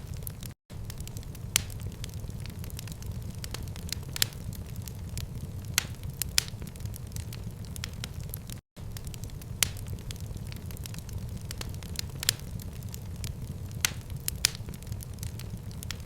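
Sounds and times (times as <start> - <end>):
fire burning low rumble: 0.0 - 16.0
fire crackling and popping: 0.0 - 16.0.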